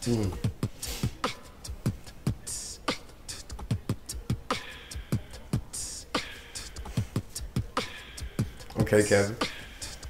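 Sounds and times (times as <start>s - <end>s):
beatboxing: 0.0s - 10.0s.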